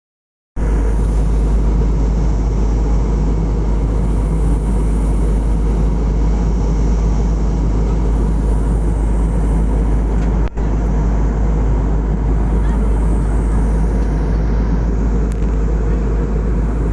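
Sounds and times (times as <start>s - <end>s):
airliner cabin noise: 0.6s - 16.9s.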